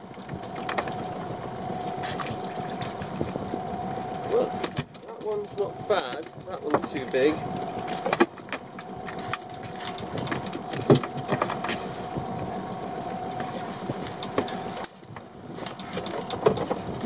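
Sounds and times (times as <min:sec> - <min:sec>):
knocks and clicks of fish and tackle: 0:00.0 - 0:03.6, 0:04.5 - 0:12.5, 0:13.4 - 0:17.0
steady mechanical hum: 0:00.0 - 0:17.0.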